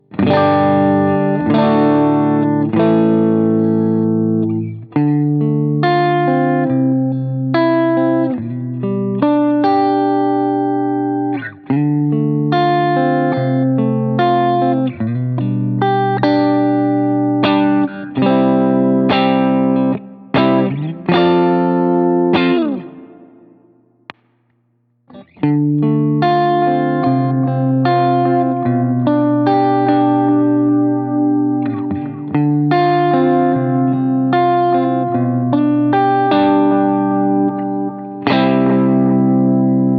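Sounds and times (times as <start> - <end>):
electric guitar ringing chords: 0.0 - 39.9.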